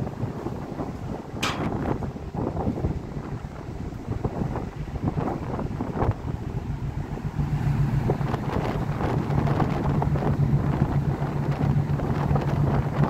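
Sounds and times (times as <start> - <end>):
ship engine drone: 0.0 - 13.0
wind buffeting microphone: 0.0 - 13.0.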